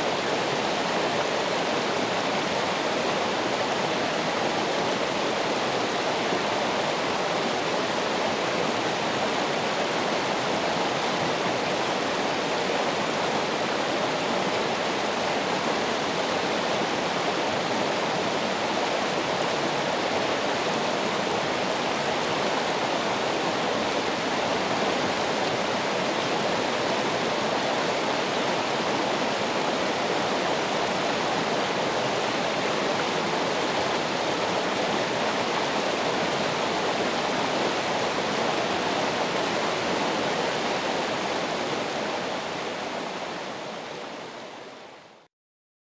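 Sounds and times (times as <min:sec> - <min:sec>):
water rushing: 0:00.0 - 0:45.2.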